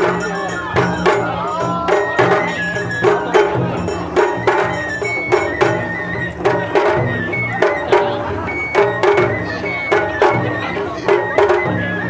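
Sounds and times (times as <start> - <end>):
drum strokes: 0.0 - 12.0
high flute melody: 0.0 - 12.0.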